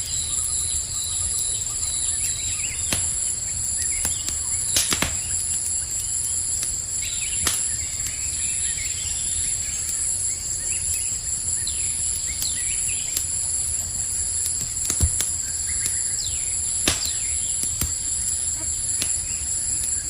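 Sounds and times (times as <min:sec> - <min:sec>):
campfire crackling and popping: 0:00.0 - 0:20.0
cricket chorus: 0:00.0 - 0:20.0.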